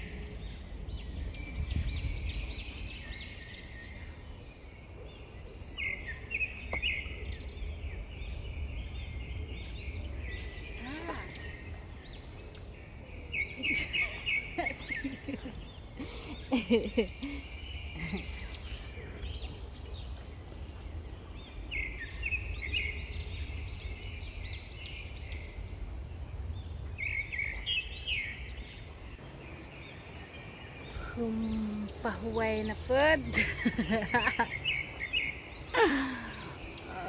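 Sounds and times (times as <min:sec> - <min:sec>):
low outdoor rumble: 0:00.0 - 0:37.0
small birds singing: 0:00.0 - 0:37.0.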